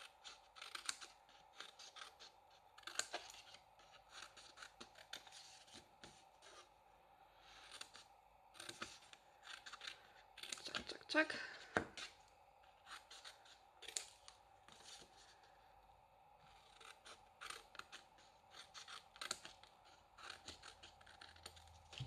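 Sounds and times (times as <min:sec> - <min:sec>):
scissors snipping cardstock: 0:00.0 - 0:06.6, 0:07.6 - 0:12.2, 0:12.8 - 0:15.1, 0:16.5 - 0:22.0.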